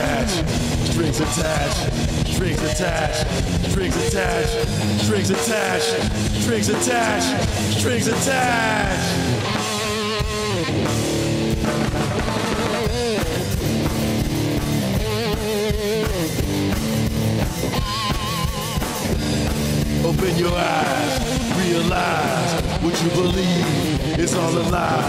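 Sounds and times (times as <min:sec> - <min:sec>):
drum kit: 0:00.0 - 0:25.0
electric guitar: 0:00.0 - 0:25.0.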